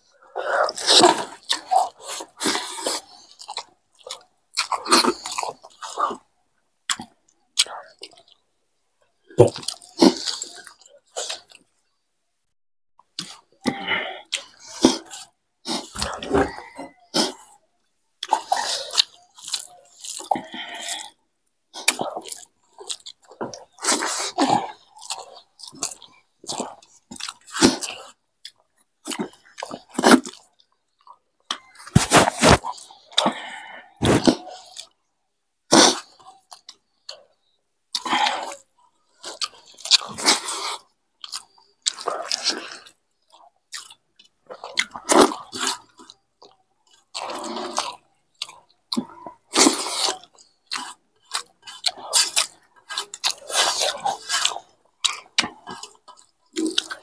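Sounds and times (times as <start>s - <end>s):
people chewing food: 0.0s - 12.1s, 13.0s - 57.0s.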